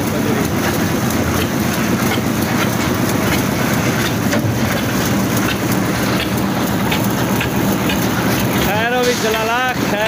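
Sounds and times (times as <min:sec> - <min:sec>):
concrete mixer drone: 0:00.0 - 0:10.0.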